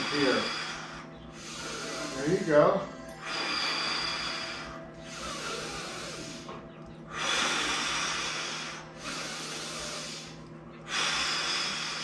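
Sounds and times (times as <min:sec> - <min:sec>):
person breathing deeply: 0:00.0 - 0:06.5, 0:07.1 - 0:12.0.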